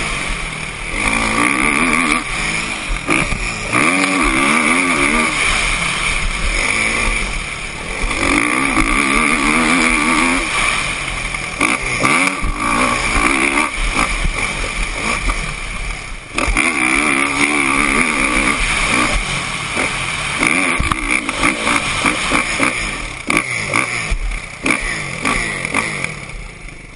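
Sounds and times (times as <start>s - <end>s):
motocross bike engine revving: 0.0s - 26.9s.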